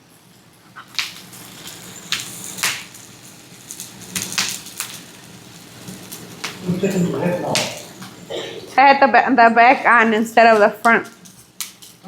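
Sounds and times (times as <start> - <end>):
sharp pops and crackles: 0.0 - 8.3, 9.6 - 12.0
food sizzling on a burner: 0.0 - 12.0.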